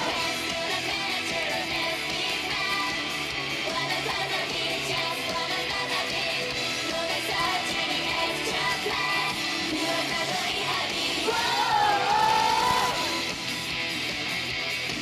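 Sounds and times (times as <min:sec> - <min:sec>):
women singing into microphones: 0:00.0 - 0:13.1
loud pop-rock music: 0:00.0 - 0:15.0.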